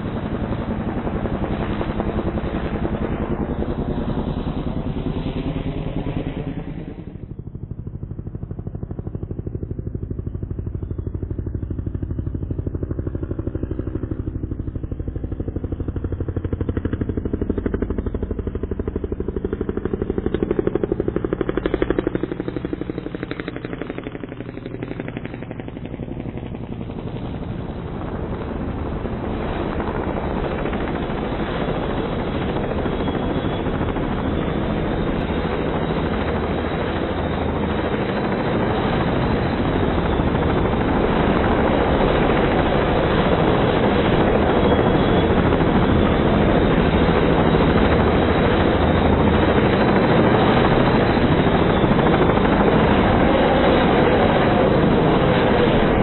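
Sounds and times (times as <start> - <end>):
helicopter rotor chop: 0.0 - 56.0.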